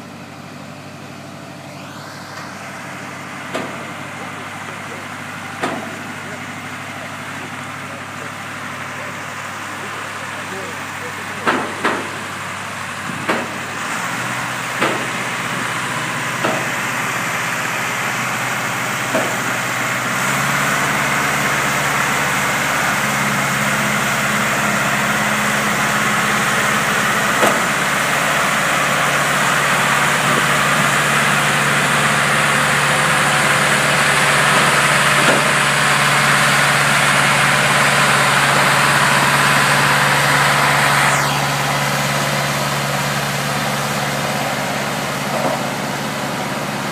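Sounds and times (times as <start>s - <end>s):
gantry engine running: 1.7s - 46.9s.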